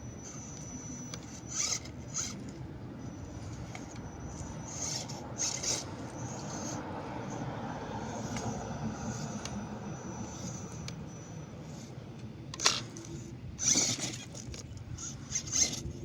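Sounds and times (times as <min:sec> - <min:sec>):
drivetrain hum: 0:00.0 - 0:16.0
high motor whine: 0:00.0 - 0:16.0
tires scraping on rock: 0:00.2 - 0:16.0.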